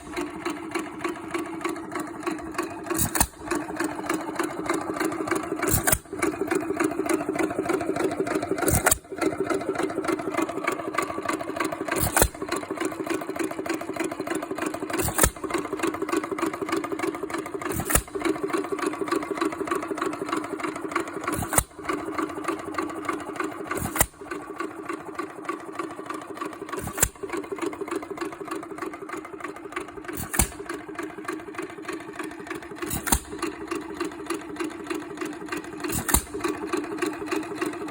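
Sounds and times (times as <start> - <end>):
engine firing stroke: 0.0 - 37.9
engine mechanical running: 0.0 - 37.9.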